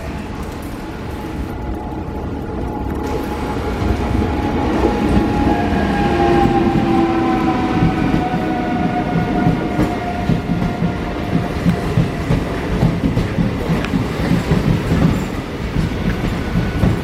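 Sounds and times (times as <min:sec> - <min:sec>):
train wheels clattering on rails: 0:03.0 - 0:17.0.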